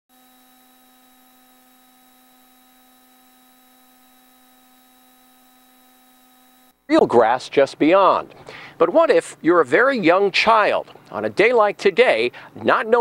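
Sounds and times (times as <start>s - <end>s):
faint electrical hum: 0.4s - 13.0s.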